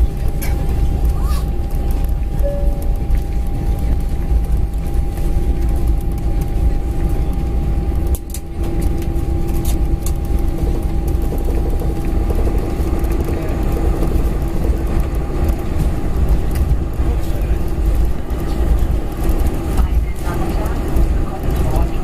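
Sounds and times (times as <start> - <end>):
constant hums: 0.0 - 22.0
jet engine cabin rumble: 0.0 - 22.0.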